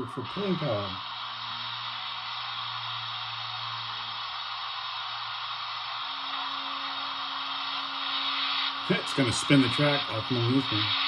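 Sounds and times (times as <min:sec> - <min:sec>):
low motor hum: 0:00.0 - 0:11.0
model steam locomotive hiss: 0:00.0 - 0:11.0.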